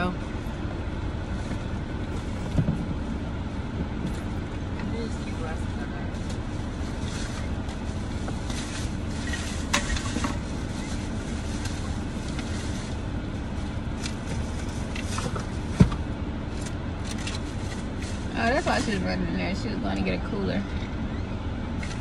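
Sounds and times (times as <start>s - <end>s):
car idling: 0.0s - 22.0s.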